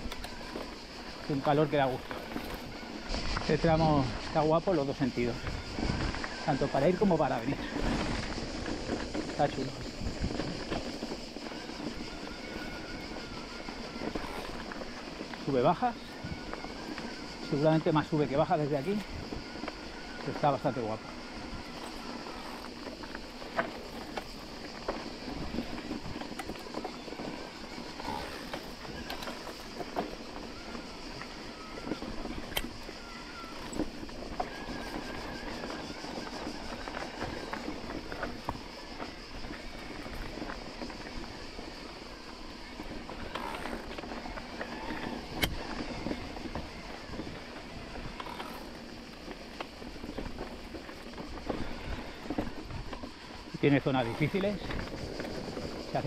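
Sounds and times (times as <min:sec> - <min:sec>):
bike clicks and rattles: 0:00.0 - 0:56.0
bike tyres rolling over stones: 0:00.0 - 0:56.0
cicadas buzzing: 0:00.0 - 0:56.0.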